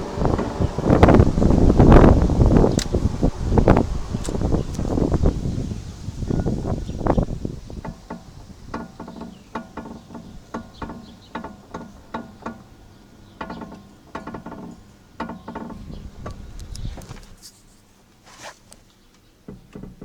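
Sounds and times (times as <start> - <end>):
suspension creaking: 0.0 - 17.5.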